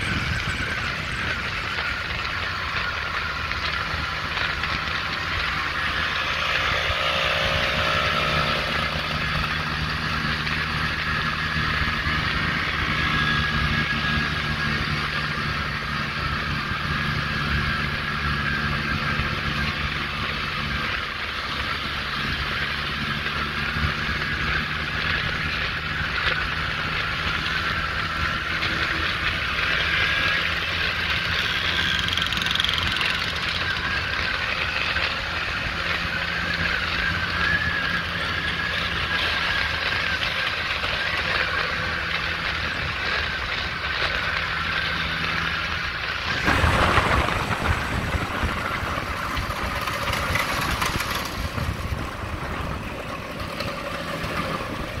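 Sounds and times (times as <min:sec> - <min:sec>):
rush of noise: 0:00.0 - 0:55.0
scooter engines running: 0:00.0 - 0:55.0.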